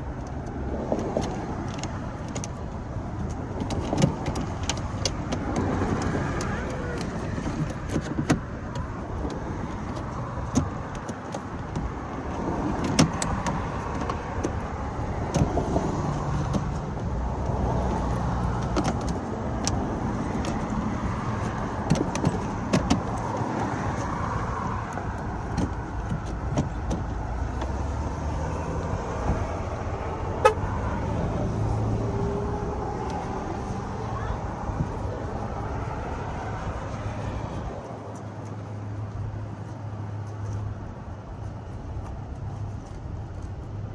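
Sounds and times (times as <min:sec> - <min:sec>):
vehicle noise: 0:00.0 - 0:43.9.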